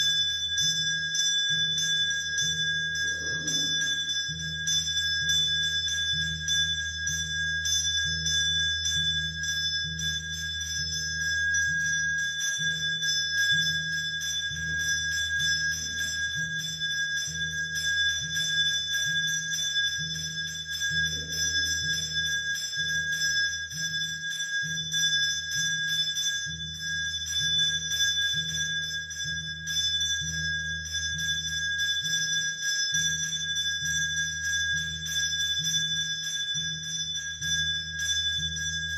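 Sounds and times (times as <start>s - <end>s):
bell ringing continuously: 0.0s - 38.9s.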